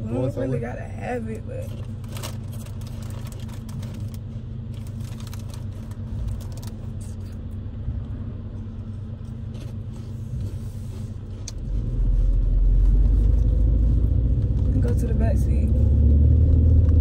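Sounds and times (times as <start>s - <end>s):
car engine and cabin hum: 0.0s - 17.0s
low rumble: 0.0s - 17.0s.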